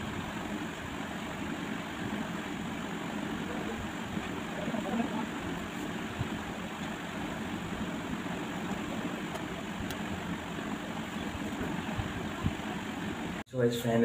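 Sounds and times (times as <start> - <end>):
steady rushing noise: 0.0 - 13.4.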